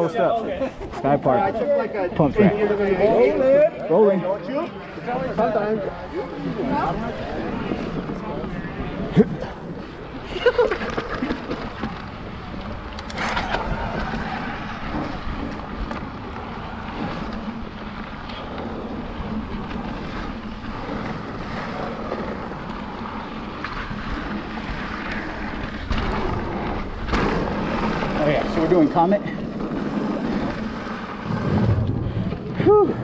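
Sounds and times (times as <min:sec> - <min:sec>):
tyres rolling on dirt trail: 0:00.0 - 0:33.0
bike clattering over bumps: 0:06.3 - 0:33.0.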